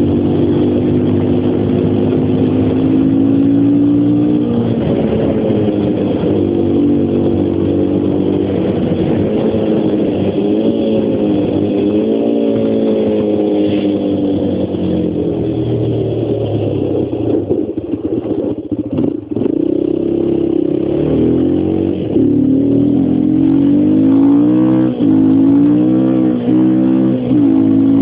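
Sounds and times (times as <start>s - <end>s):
motorcycle engine revving and upshifting: 0.0s - 28.0s.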